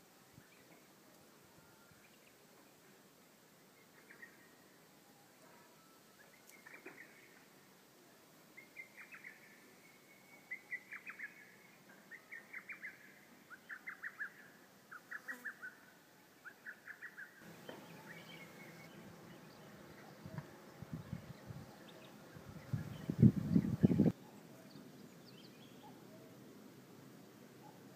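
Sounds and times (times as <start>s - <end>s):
background hiss: 0.0s - 27.9s
songbird chirping: 3.6s - 26.6s.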